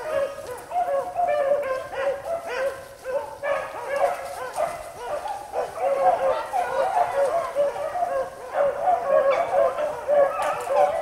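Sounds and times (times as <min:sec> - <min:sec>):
beagles baying: 0:00.0 - 0:11.0.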